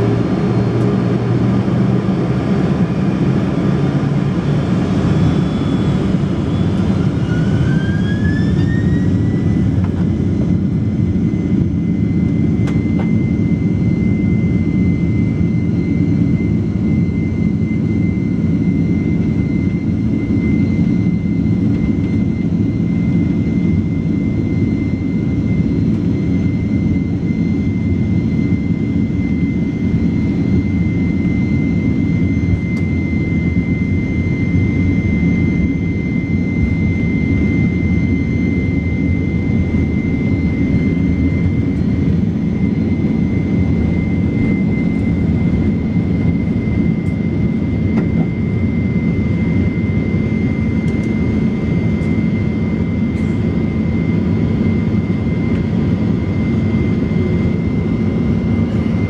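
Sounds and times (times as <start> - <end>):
jet engines at high thrust: 0.0 - 59.0.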